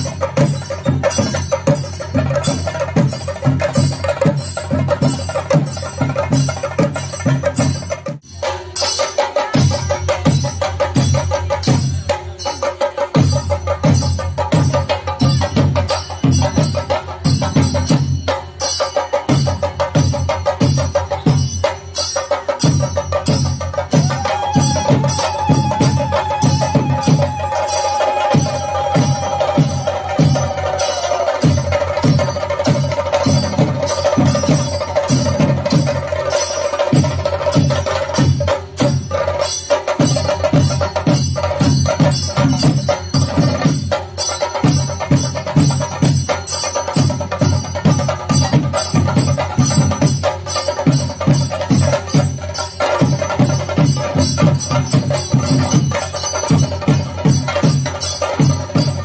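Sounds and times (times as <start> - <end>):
fast percussion drumming: 0.0 - 59.0.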